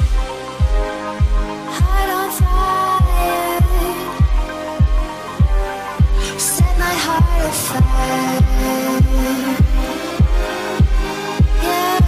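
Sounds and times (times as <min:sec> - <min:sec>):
kick drum: 0:00.0 - 0:11.7
electronic music: 0:00.0 - 0:12.0.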